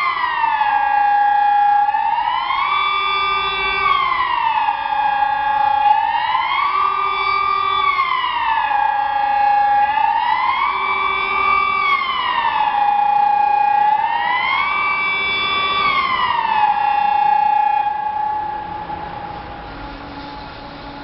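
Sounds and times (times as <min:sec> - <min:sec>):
electronic siren rising and falling: 0:00.0 - 0:19.9.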